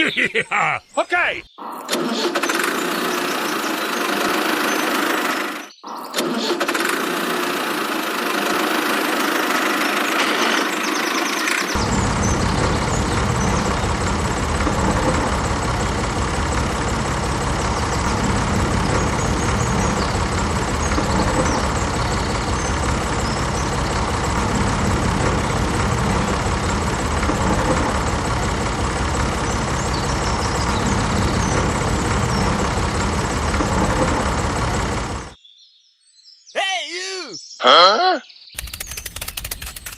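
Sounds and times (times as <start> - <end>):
tractor engine running: 0.0 - 35.4, 38.6 - 39.9.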